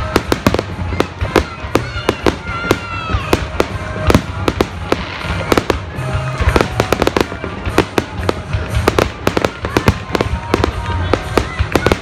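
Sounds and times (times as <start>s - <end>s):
fireworks bursting bangs: 0.0s - 12.0s.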